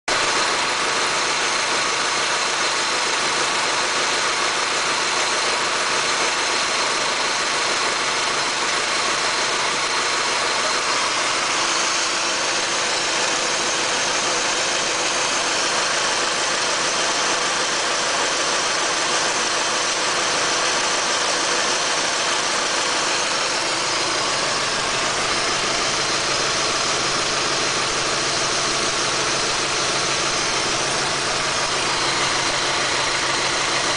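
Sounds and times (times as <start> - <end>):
car engine idling with misfire: 0.0 - 33.9.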